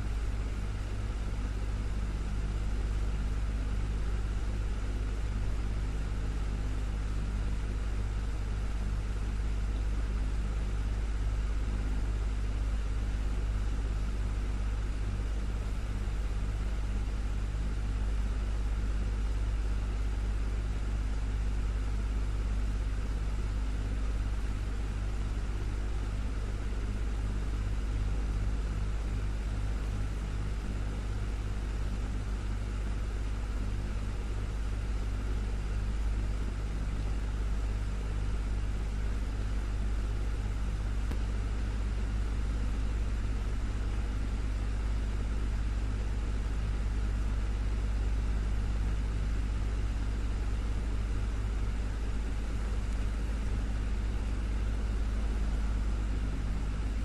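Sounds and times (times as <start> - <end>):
desktop fan running: 0.0 - 57.0.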